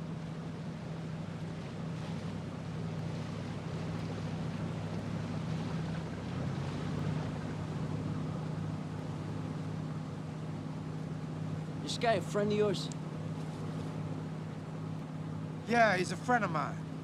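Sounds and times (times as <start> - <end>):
water wash: 0.0 - 15.0
motorboat engine running: 0.0 - 17.0.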